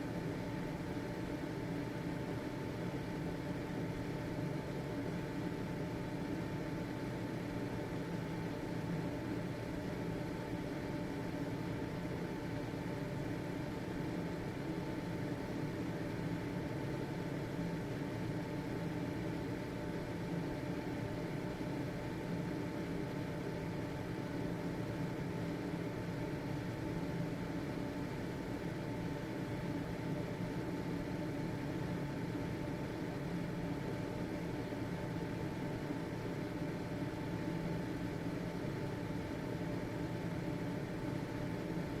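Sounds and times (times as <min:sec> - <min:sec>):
ventilation fan whirring: 0:00.0 - 0:42.0.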